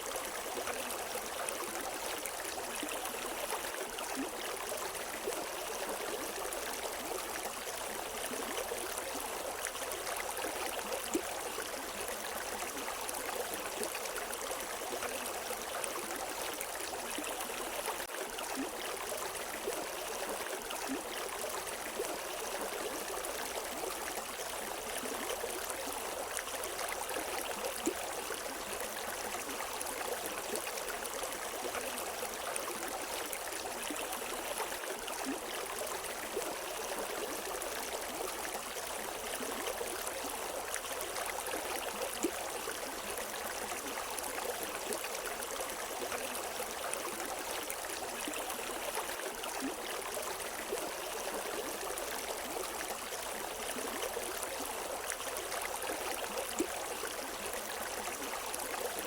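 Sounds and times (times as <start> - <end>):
river water flowing: 0.0 - 59.0
water trickling over rocks: 0.0 - 59.0.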